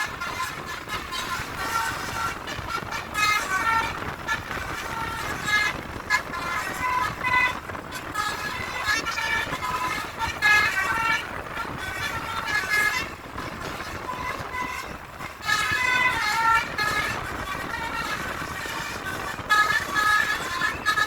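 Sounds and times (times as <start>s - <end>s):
bus horns playing melodies: 0.0s - 21.0s
low traffic noise: 0.0s - 21.0s.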